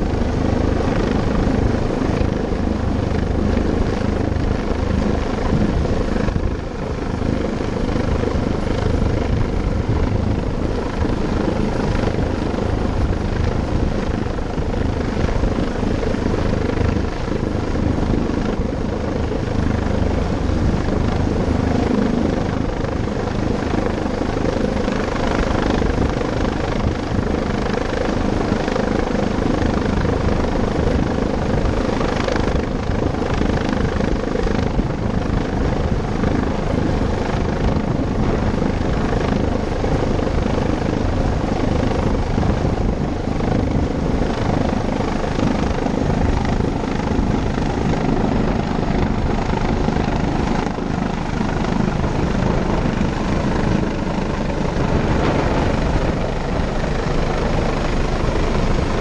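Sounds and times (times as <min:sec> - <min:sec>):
helicopter hovering overhead: 0:00.0 - 0:59.0.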